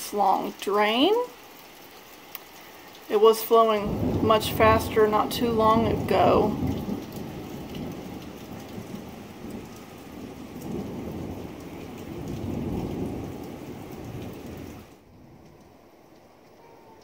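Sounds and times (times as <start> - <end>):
rain on paved patio: 0.0 - 17.0.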